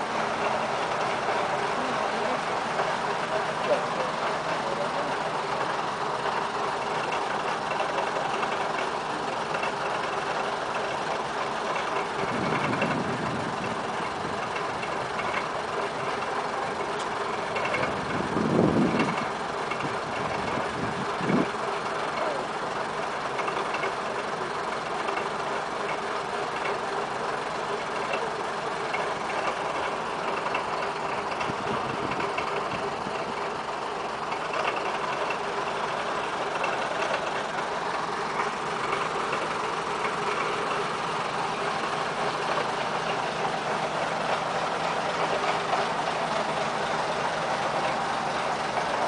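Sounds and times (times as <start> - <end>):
train diesel engines idling: 0.0 - 49.0.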